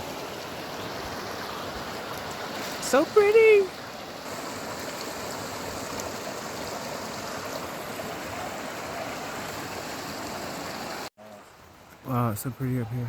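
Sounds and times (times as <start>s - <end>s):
mountain stream rushing: 0.0s - 12.4s.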